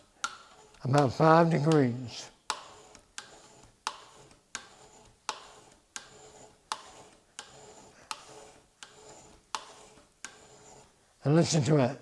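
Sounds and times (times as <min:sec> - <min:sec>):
steel sliding on steel: 0:00.0 - 0:11.7.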